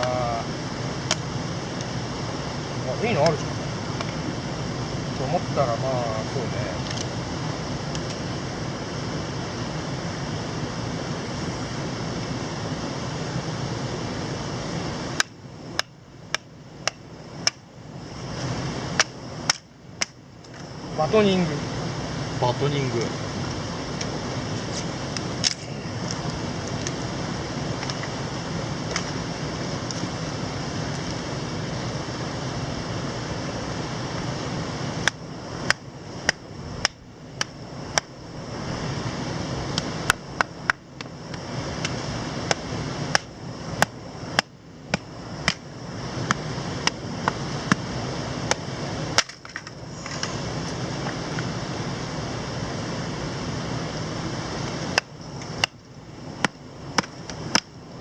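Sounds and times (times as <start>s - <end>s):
mountain stream rushing: 0.0s - 15.9s, 17.0s - 19.7s, 20.6s - 58.0s.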